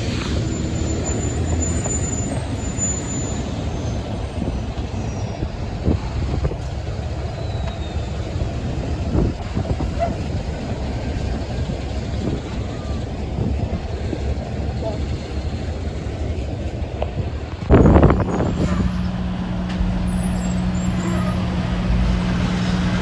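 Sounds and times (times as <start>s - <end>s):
truck traffic rumble: 0.0s - 23.0s.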